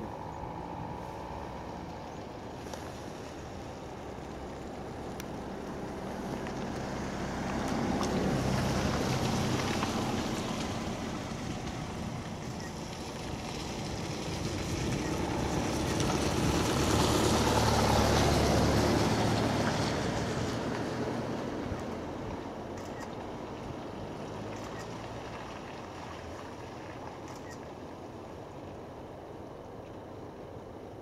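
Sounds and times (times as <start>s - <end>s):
motor vehicle passing: 0.0s - 27.6s.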